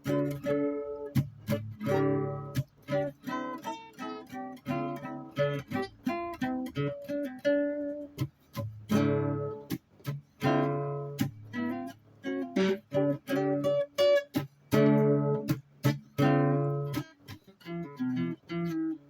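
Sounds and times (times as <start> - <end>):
guitar strumming chords: 0.0 - 19.0.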